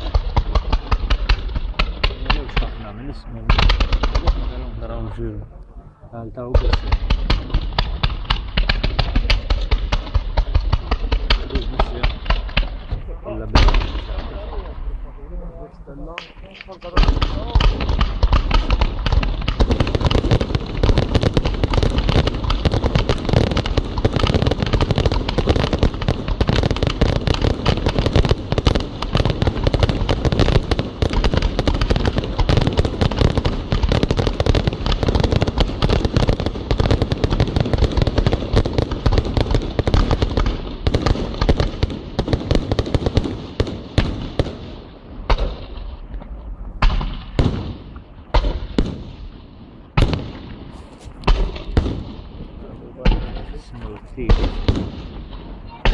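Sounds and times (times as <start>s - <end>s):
fireworks bangs and crackling: 0.0s - 5.4s, 6.3s - 55.9s.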